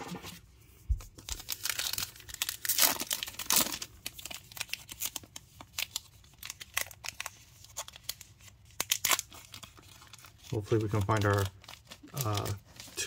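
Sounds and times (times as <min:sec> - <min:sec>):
wrapper tearing and crinkling: 0:01.2 - 0:13.0.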